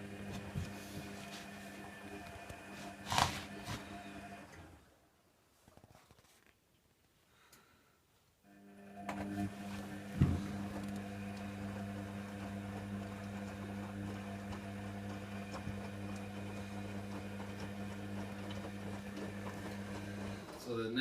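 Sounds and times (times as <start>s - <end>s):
drain pump humming: 0.0s - 4.7s, 8.5s - 21.0s.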